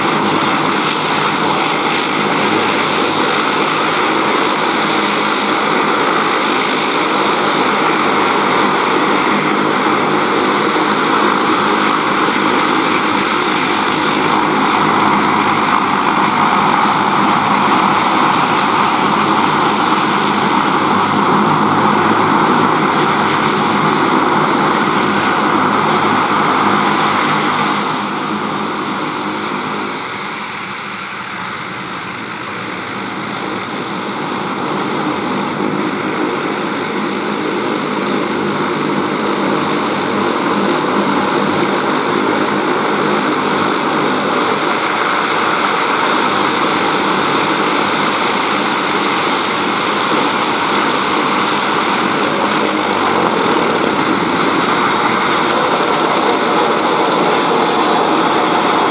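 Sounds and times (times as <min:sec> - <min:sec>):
high turbine whine: 0:00.0 - 0:58.9
propeller drone: 0:00.0 - 0:58.9.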